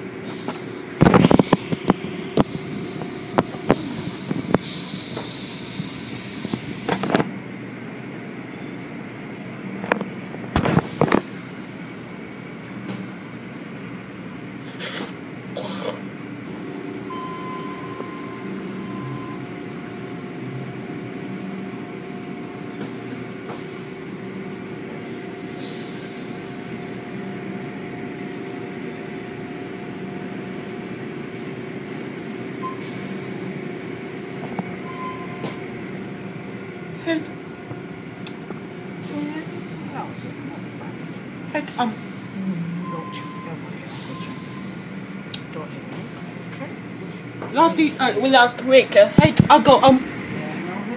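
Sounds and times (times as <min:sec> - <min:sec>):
car wash machinery drone: 0:00.0 - 0:50.9
steady hum: 0:00.0 - 0:50.9.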